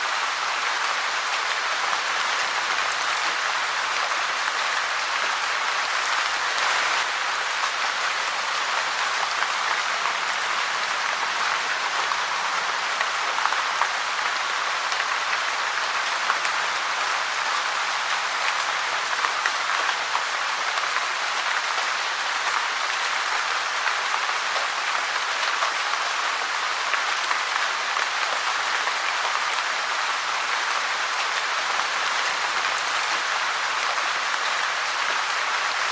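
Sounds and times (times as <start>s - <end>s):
steady rain hiss: 0.0s - 35.9s.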